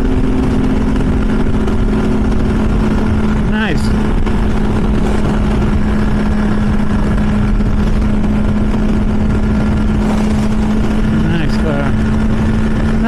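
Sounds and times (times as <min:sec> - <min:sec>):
motorcycle engine cruising: 0:00.0 - 0:13.0
wind rush on microphone: 0:00.0 - 0:13.0.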